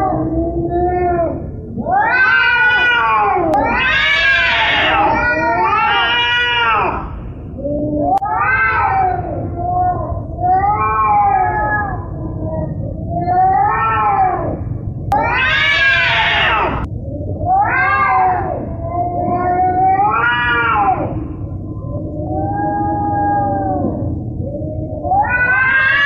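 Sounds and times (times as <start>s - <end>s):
cat yowling: 0.0s - 26.0s.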